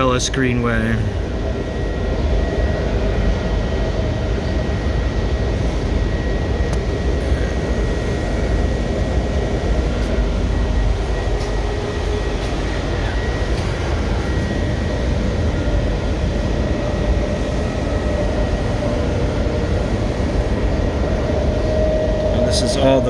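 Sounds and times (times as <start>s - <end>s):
rail car rumble: 0.0s - 23.0s
thin steady whine: 0.0s - 23.0s.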